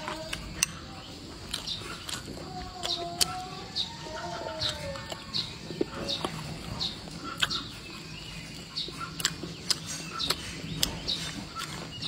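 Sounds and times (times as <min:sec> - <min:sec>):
bird chirping: 0:00.0 - 0:12.0
person chewing: 0:00.0 - 0:12.0.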